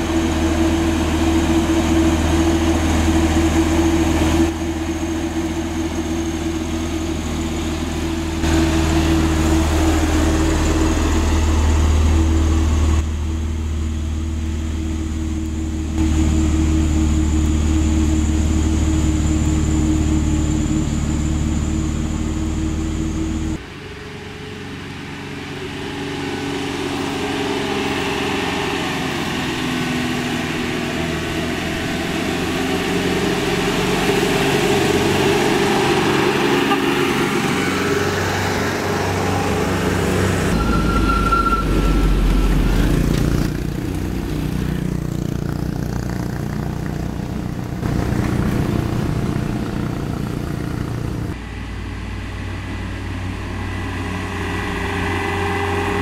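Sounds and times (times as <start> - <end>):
diesel truck engines droning: 0.0 - 56.0
truck passing with low rumble: 0.0 - 56.0.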